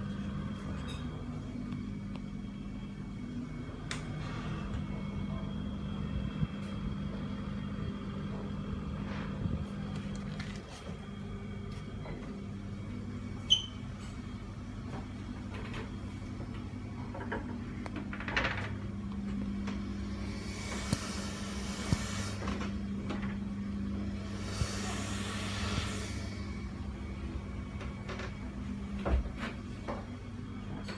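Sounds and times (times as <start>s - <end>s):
exhaust fan humming: 0.0s - 30.9s.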